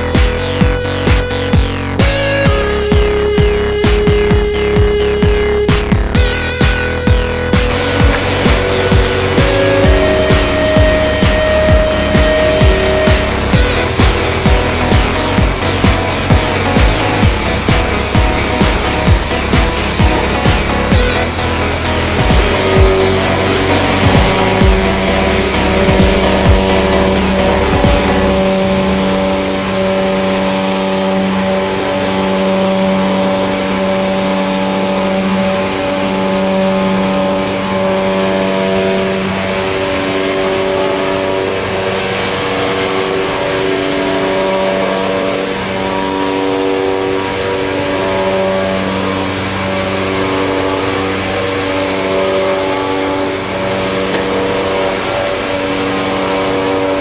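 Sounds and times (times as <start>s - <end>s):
motor running steadily: 0.0s - 57.0s.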